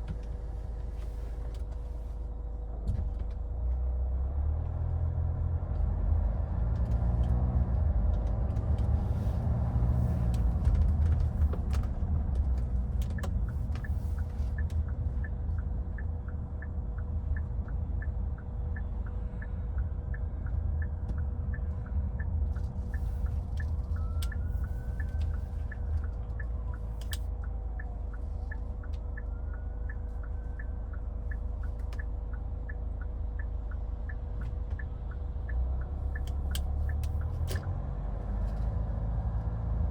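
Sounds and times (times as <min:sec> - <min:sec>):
car engine and road rumble: 0:00.0 - 0:39.9
turn signal ticking: 0:05.6 - 0:39.9.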